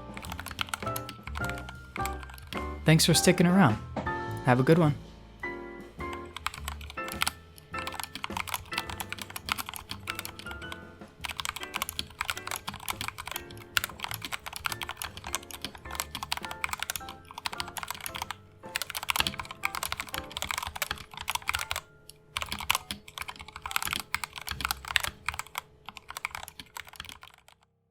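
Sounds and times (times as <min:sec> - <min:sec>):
typing on mechanical keyboard: 0:00.0 - 0:02.7, 0:06.1 - 0:27.6
background music: 0:00.0 - 0:27.4.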